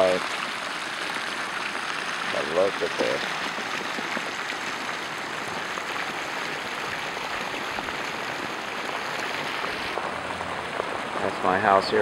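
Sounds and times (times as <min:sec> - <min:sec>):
floodwater rushing down street: 0:00.0 - 0:12.0.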